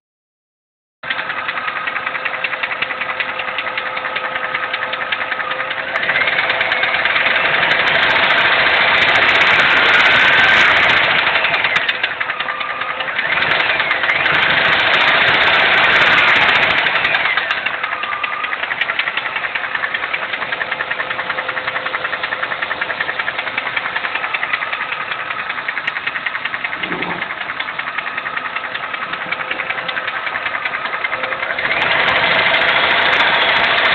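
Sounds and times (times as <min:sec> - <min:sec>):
car engine idling and revving: 0:01.0 - 0:33.9
engine ticking: 0:01.0 - 0:33.9.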